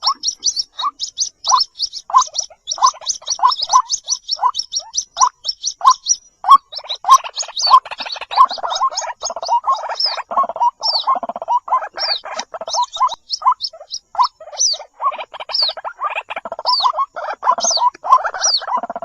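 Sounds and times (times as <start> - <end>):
high squeaky bird notes: 0.0 - 15.8
waterhens croaking: 0.0 - 19.0.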